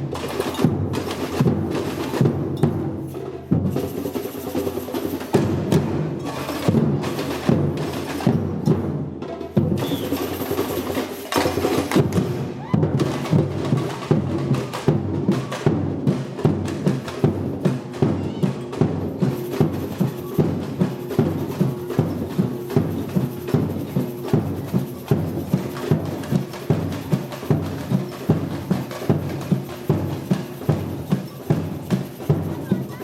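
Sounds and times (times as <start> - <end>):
samba percussion drums: 0.0 - 33.0.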